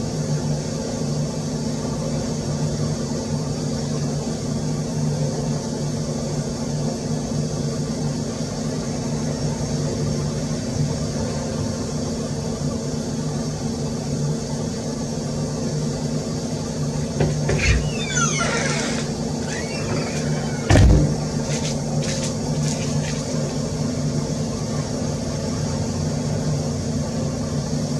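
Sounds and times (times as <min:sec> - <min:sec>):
mechanical hum: 0:00.0 - 0:27.9.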